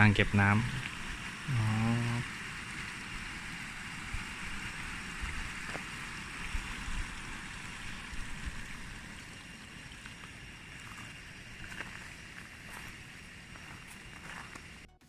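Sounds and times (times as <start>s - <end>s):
hissing outdoor ambience: 0.0s - 15.0s.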